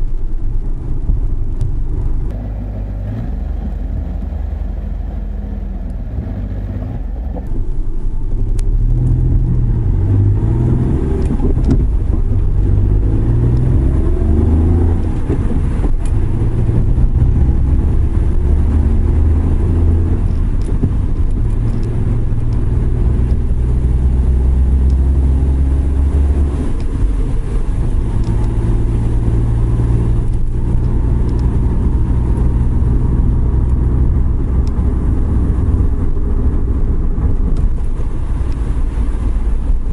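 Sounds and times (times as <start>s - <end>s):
van engine and tyres on wet road: 0.0s - 39.9s.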